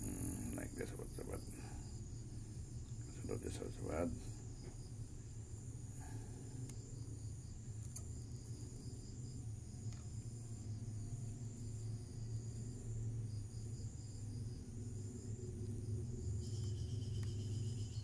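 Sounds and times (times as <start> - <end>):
crickets chirping: 0.0 - 18.0
low steady hum: 0.0 - 18.0.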